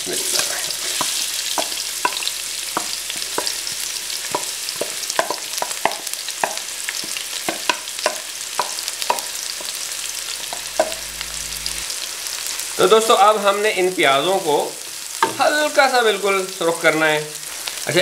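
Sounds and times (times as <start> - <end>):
onions sizzling in a pot: 0.0 - 18.0.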